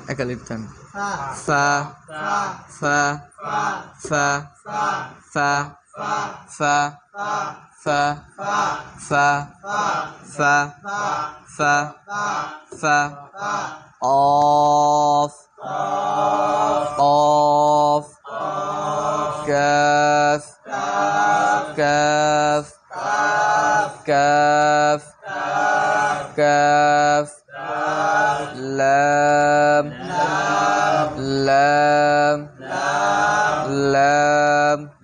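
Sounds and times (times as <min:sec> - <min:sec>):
man chanting sing-song: 0:01.2 - 0:35.0.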